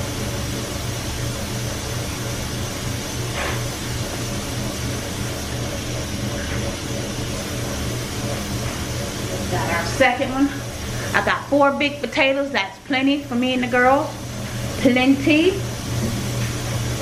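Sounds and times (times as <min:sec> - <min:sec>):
steady low hum: 0:00.0 - 0:17.0
tap water running: 0:00.0 - 0:17.0.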